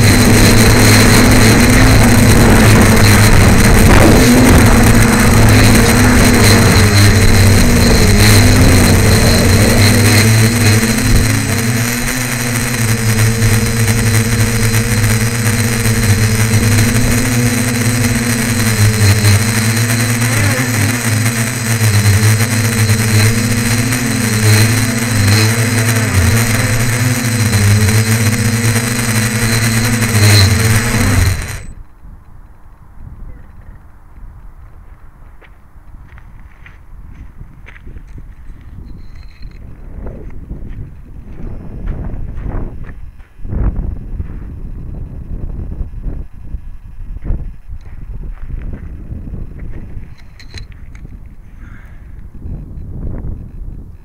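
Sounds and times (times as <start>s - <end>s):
drone motors buzzing whine: 0.0s - 32.0s, 37.6s - 54.0s.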